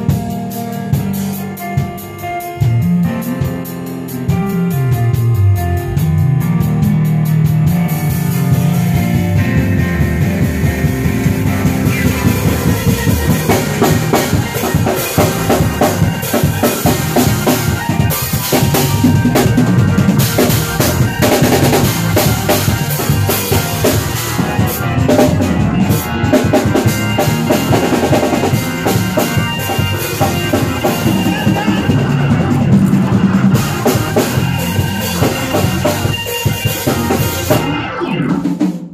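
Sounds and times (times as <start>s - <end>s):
fast drum kit strokes: 0.0s - 38.9s
live band playing: 0.0s - 38.9s.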